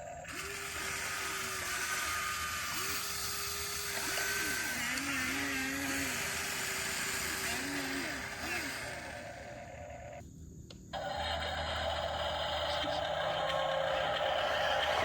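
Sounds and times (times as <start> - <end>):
excavator motors whining: 0.0 - 10.2, 10.9 - 15.0.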